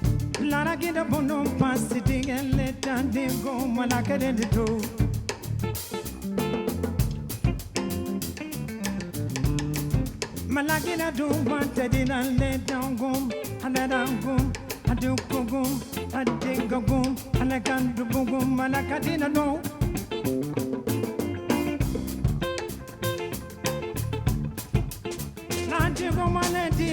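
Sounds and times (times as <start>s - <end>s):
live band music: 0.0s - 26.9s.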